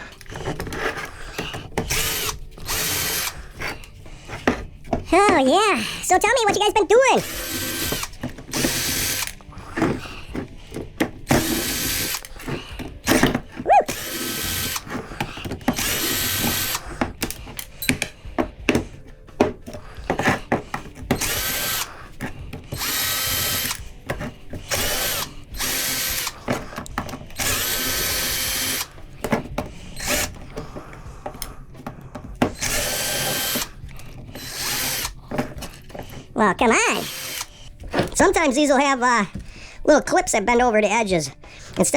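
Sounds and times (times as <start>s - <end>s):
metal parts clicking and knocking: 0.0s - 39.9s
power drill whining: 0.0s - 41.9s.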